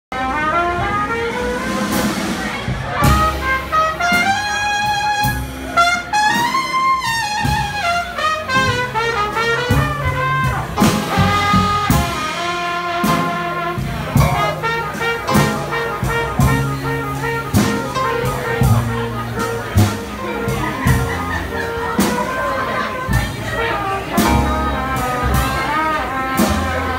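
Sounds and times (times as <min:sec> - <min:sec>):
cornet melody: 0:00.1 - 0:26.9
drum beat: 0:02.0 - 0:26.9
walking bass line: 0:02.9 - 0:26.9.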